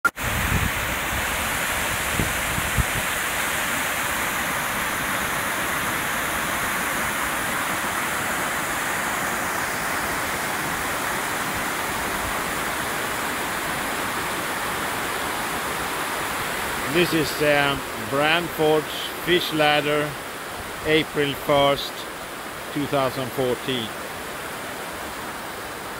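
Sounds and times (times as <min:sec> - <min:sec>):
water rushing over rocks: 0:00.1 - 0:25.9.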